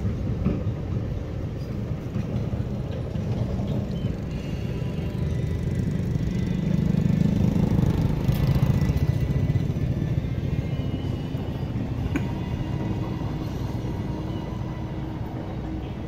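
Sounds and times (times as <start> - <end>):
passing traffic engine rumble: 0.0 - 16.0.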